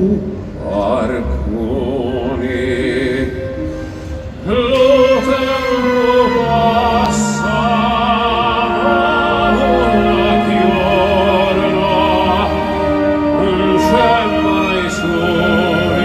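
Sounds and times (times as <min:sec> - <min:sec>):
orchestral music: 0:00.0 - 0:16.0.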